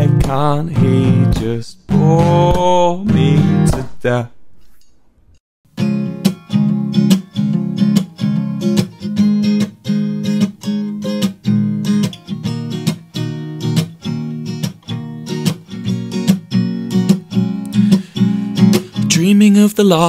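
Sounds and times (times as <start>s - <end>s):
acoustic guitar strumming: 0.0s - 3.9s, 5.7s - 20.0s.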